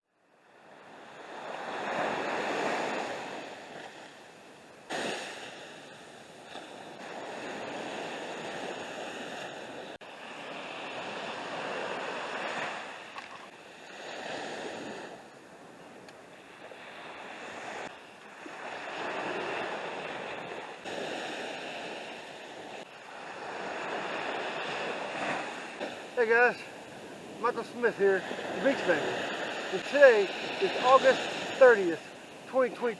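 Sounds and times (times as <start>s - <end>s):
waves breaking on shore: 0.2s - 32.9s.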